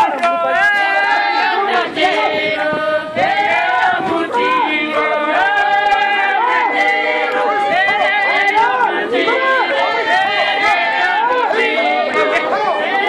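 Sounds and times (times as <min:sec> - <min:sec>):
women chanting in song: 0:00.3 - 0:13.0.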